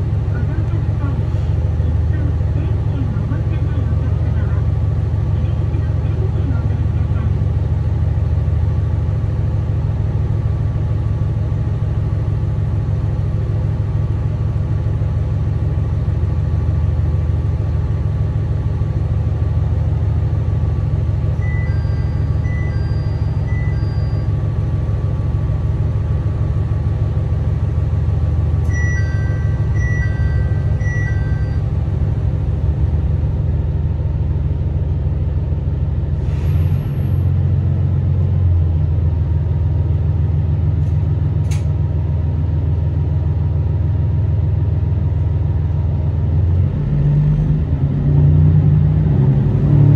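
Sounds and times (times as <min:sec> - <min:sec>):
diesel engine idling: 0:00.0 - 0:49.3.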